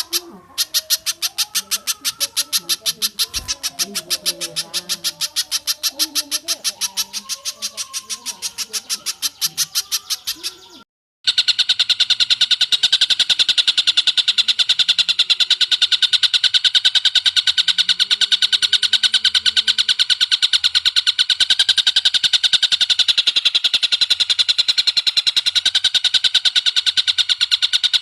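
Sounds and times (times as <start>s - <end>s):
faint lower bird calls: 0.0s - 28.0s
high repeated bird notes: 0.0s - 28.0s
rapid bird trill: 0.0s - 28.0s.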